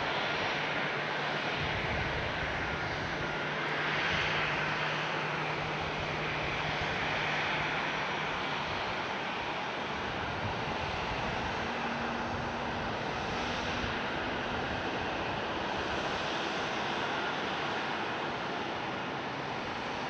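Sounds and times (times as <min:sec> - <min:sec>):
airliner engines rushing: 0:00.0 - 0:20.0.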